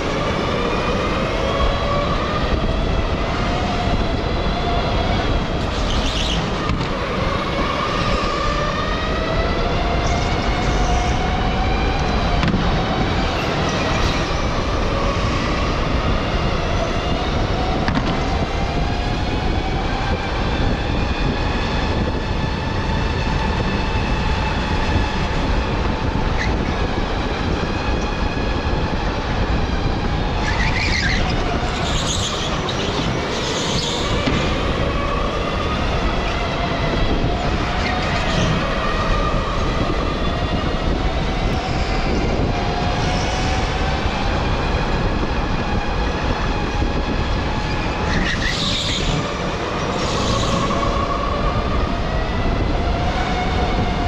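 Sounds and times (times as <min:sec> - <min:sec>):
wind and tyre rumble: 0:00.0 - 0:54.0.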